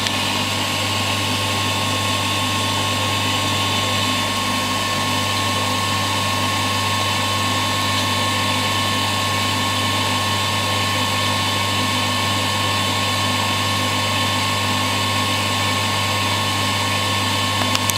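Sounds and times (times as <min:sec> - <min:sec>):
machine humming: 0:00.0 - 0:17.9.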